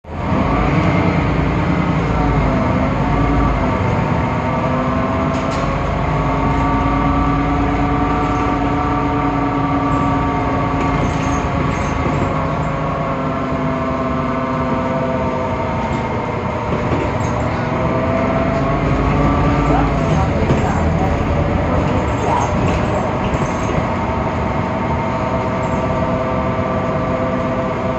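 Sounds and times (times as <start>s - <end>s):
bus engine whine: 0.0s - 27.9s.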